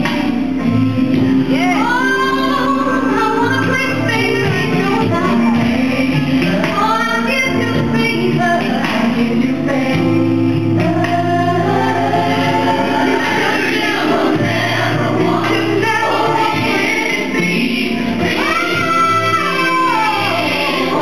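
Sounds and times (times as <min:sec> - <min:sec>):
gospel choir singing: 0:00.0 - 0:21.0
low bass notes: 0:00.0 - 0:21.0.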